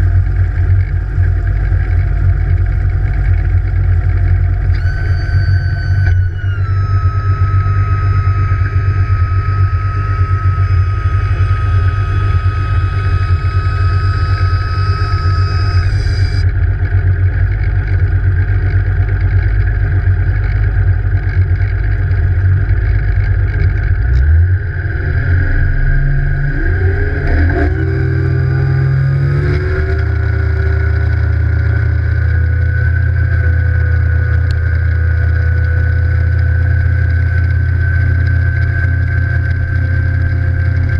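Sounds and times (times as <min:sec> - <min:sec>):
high steady whine: 0:00.0 - 0:40.9
outboard motor running: 0:00.0 - 0:40.9.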